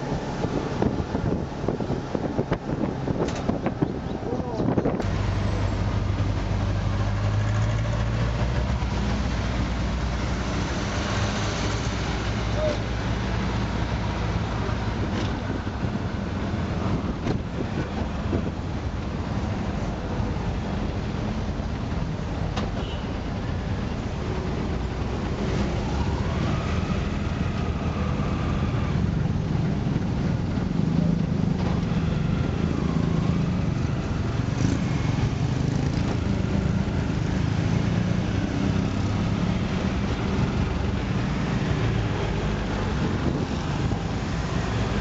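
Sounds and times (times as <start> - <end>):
street traffic: 0.0 - 45.0.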